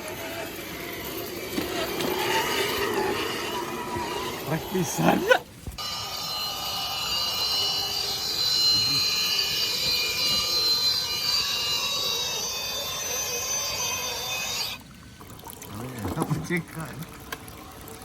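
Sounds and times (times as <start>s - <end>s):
small electric motor whining: 0.0s - 14.8s.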